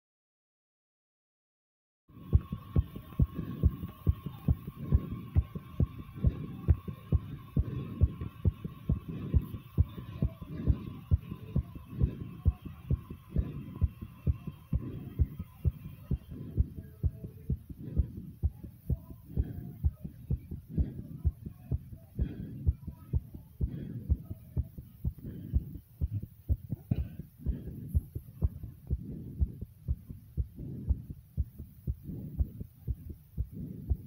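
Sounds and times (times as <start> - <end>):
fast heartbeat thumps: 2.1 - 34.0.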